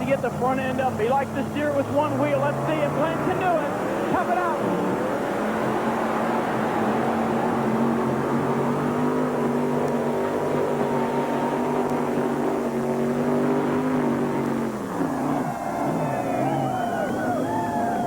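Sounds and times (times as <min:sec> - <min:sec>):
pulling tractor engine at full throttle: 0:00.0 - 0:18.0.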